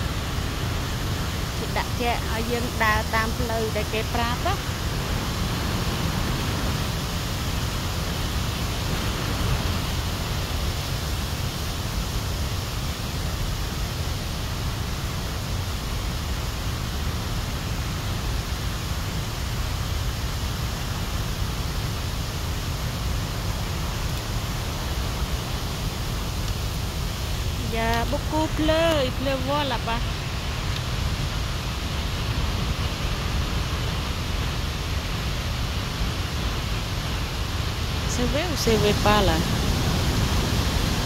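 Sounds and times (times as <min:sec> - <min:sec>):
rushing noise with low rumble: 0:00.0 - 0:41.0.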